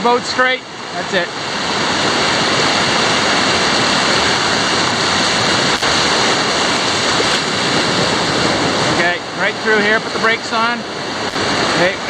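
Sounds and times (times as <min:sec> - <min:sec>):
whitewater rushing over rocks: 0:00.0 - 0:12.0.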